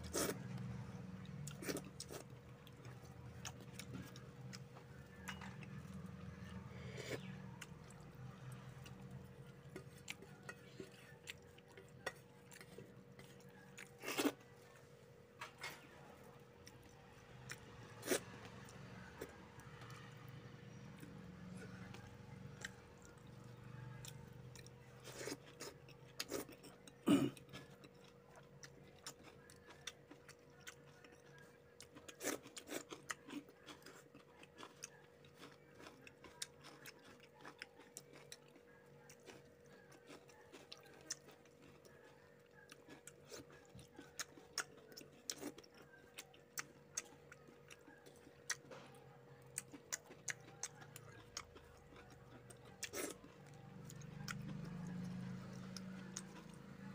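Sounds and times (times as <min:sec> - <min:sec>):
person chewing and smacking: 0:00.0 - 0:14.7, 0:15.6 - 0:56.9.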